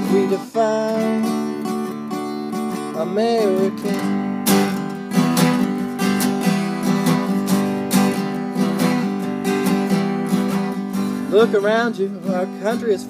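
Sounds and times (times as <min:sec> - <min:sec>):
acoustic guitar strumming: 0:00.0 - 0:13.0
person singing folk song: 0:00.0 - 0:13.0.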